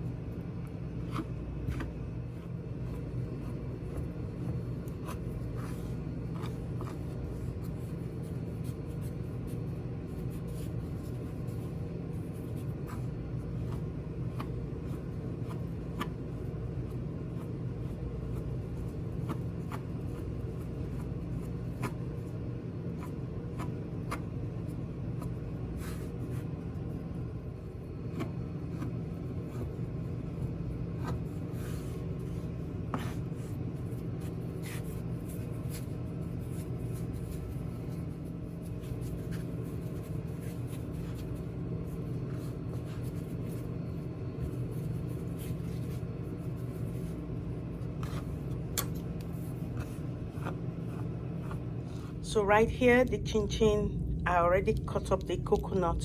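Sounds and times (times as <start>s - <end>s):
constant low hum: 0.0s - 56.0s
rolling pin rubbing on dough: 1.0s - 52.3s.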